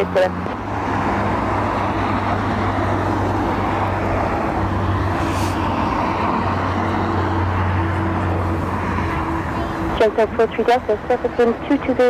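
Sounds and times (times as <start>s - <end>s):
turboprop airliner drone: 0.0s - 12.0s.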